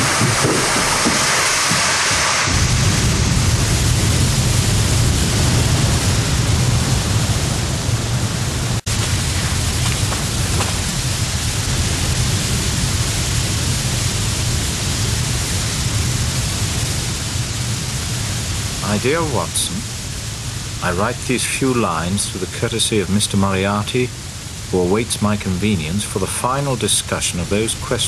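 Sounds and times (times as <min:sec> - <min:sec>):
waterfall rushing: 0:00.0 - 0:06.8, 0:08.6 - 0:28.0.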